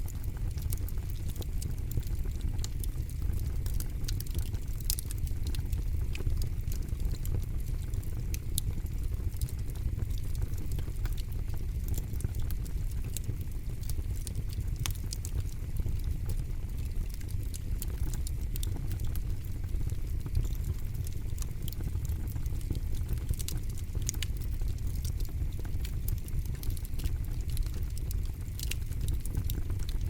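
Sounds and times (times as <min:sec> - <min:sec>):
campfire crackling and popping: 0:00.0 - 0:30.0
low fire rumble: 0:00.0 - 0:30.0.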